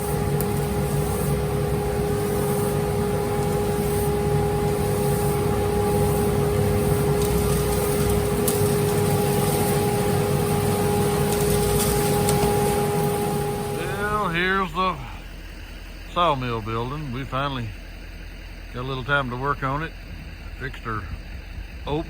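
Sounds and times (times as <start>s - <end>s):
low rumble: 0.0s - 22.0s
machine humming: 0.0s - 22.0s.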